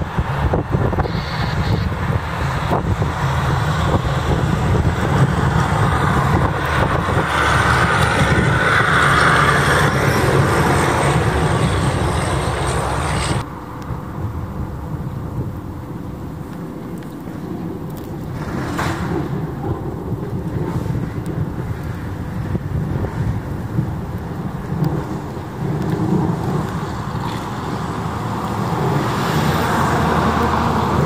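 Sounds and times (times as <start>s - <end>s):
plow blade scraping snow: 0.0s - 13.5s, 17.9s - 31.0s
diesel truck engine: 0.0s - 31.0s
quieter vehicle noise: 0.0s - 31.0s.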